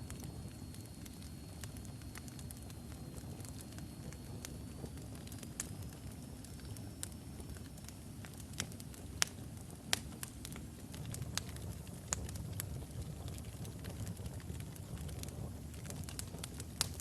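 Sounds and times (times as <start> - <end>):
wood fire crackling: 0.0 - 17.0
sharp pops from fire: 0.1 - 17.0.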